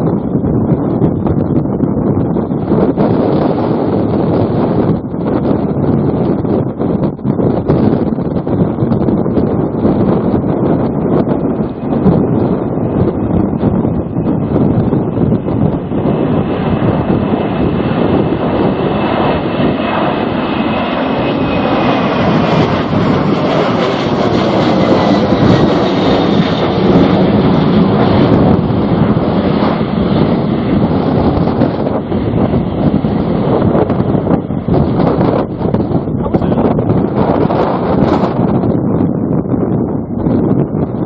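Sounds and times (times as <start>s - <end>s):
jet engines passing: 0.0s - 41.0s
wind buffeting microphone: 0.0s - 41.0s.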